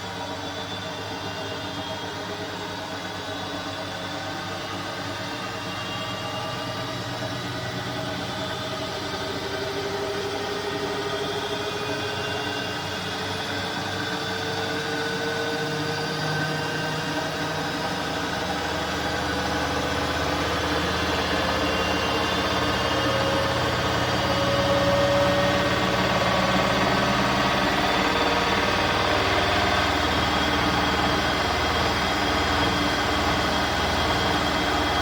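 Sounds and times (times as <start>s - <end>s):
washing machine running: 2.5s - 35.0s.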